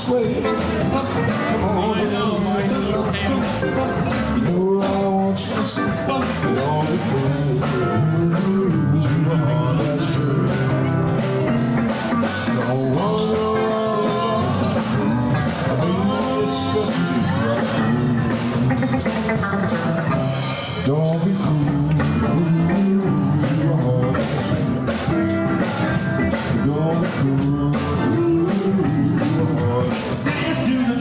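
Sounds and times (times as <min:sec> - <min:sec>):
electric keyboard: 0:00.0 - 0:31.0
live rock and roll band: 0:00.0 - 0:31.0
person singing: 0:00.0 - 0:31.0.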